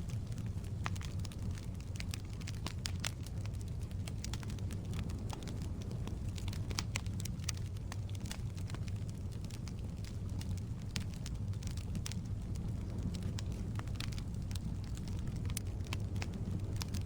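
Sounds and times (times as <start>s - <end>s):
fire flame rumble: 0.0s - 17.0s
wood crackling and popping: 0.0s - 17.0s.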